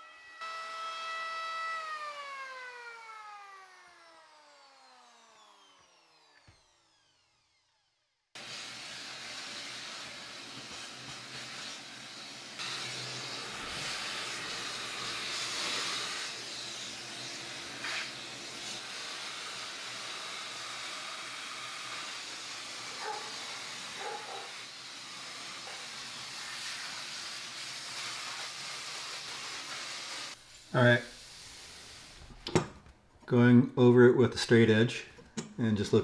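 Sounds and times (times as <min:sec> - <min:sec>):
shop vacuum running: 0:00.0 - 0:32.7.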